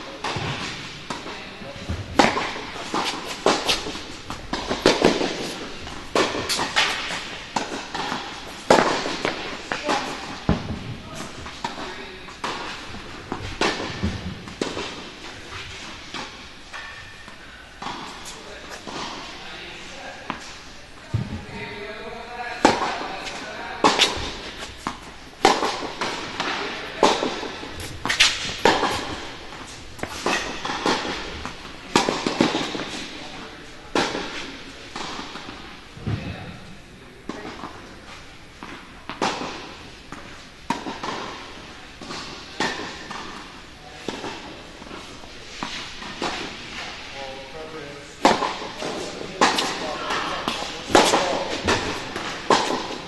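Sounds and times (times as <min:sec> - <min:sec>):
tennis balls bouncing on hard court: 0:00.2 - 0:19.3, 0:22.6 - 0:36.2, 0:38.6 - 0:46.9, 0:48.2 - 0:53.0
tennis balls struck by rackets: 0:00.2 - 0:19.4, 0:22.6 - 0:36.2, 0:37.3 - 0:47.1, 0:48.2 - 0:53.0.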